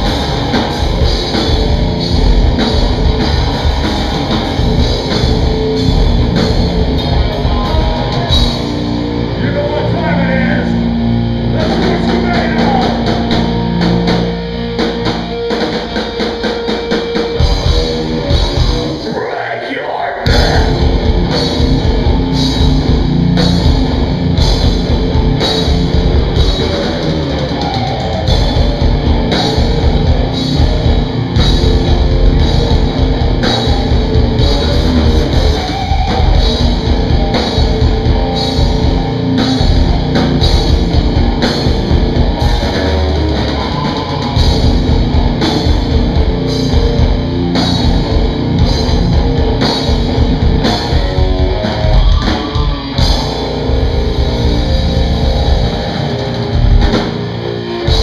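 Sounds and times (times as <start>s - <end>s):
drum and cymbal hits: 0.0s - 9.4s, 11.5s - 19.0s, 20.3s - 58.0s
heavy metal band playing: 0.0s - 58.0s.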